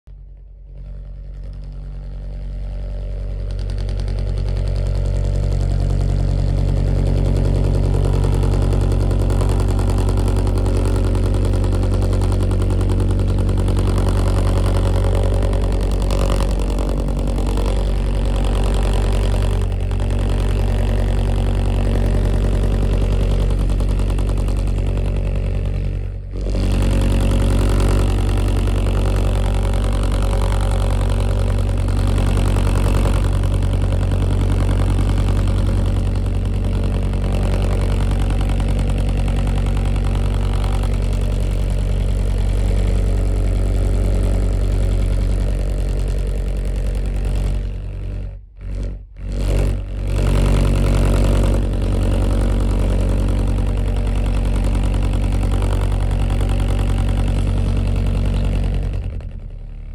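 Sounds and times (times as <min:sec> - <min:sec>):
buzzing low bass tone: 0:00.1 - 0:59.9.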